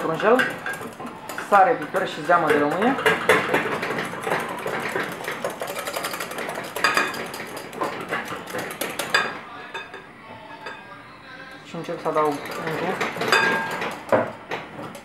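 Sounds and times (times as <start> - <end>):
wire whisk beating in glass bowl: 0.0 - 10.0, 11.7 - 15.0.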